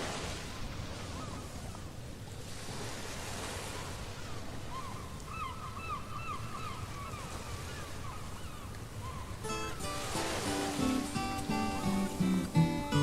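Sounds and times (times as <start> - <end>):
ocean surf washing: 0.0 - 5.8, 6.6 - 13.0.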